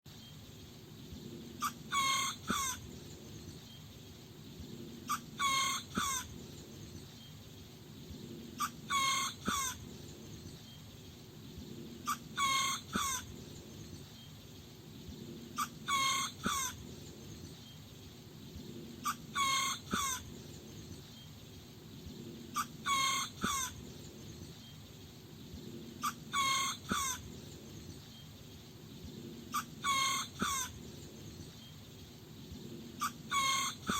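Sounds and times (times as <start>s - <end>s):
faint low background noise: 0.1s - 33.9s.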